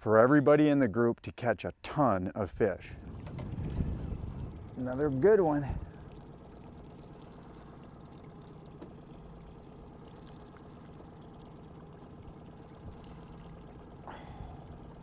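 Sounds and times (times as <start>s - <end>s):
low steady motor hum: 2.6s - 15.0s
water lapping against boat hull: 2.6s - 15.0s.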